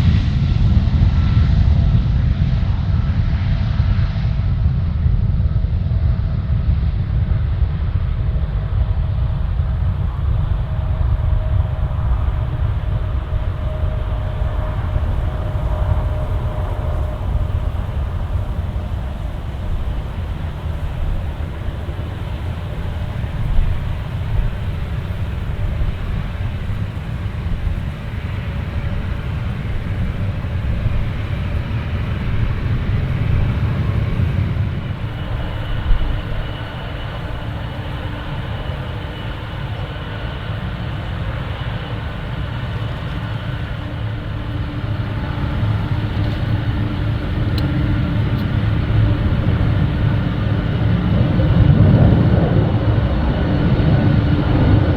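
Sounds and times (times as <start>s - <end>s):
engine whine: 0.0s - 54.9s
jet engines rumbling: 0.0s - 54.9s.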